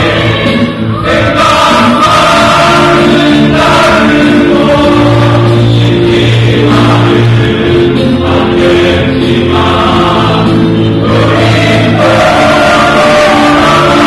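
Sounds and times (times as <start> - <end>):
choir singing chords: 0.0 - 14.0.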